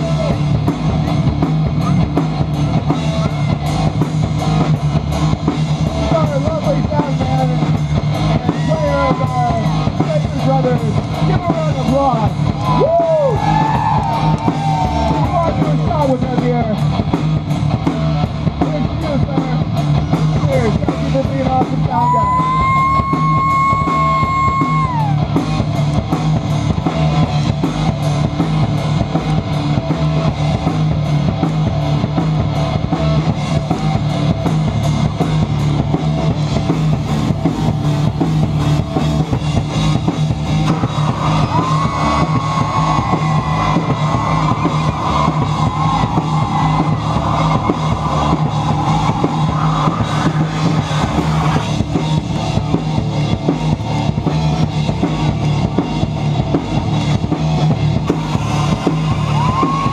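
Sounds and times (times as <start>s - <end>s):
drum kit steady beat: 0.0s - 59.9s
electric guitars: 0.0s - 59.9s.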